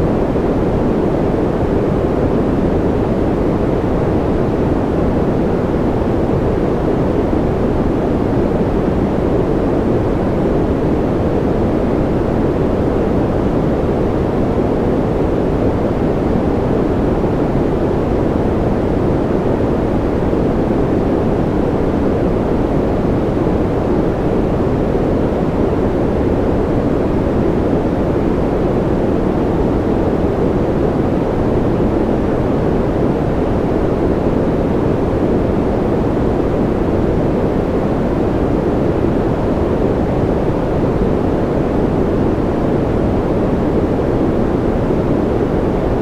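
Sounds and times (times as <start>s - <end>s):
deep muffled white noise: 0.0s - 46.0s.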